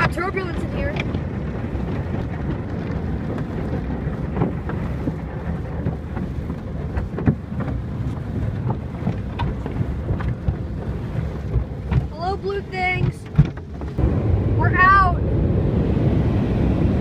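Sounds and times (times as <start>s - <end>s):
car wash rushing rumble: 0.0s - 17.0s.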